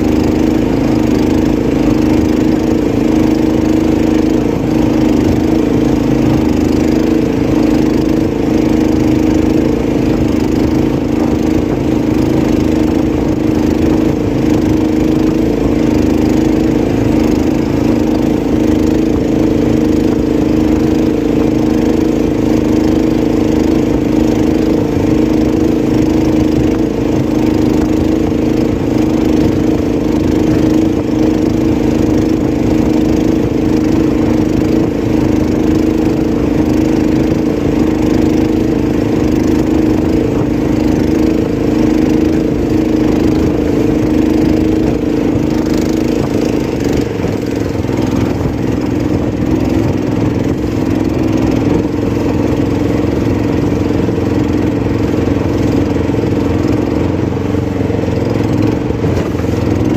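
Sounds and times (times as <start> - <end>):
small boat engine running: 0.0 - 59.9.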